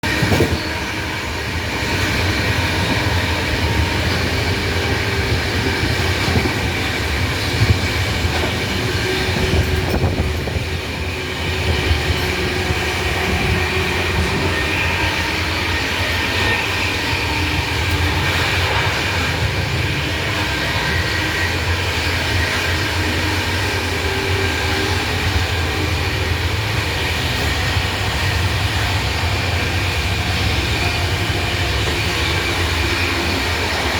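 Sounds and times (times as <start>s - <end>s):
moving train rumble: 0.0s - 33.9s.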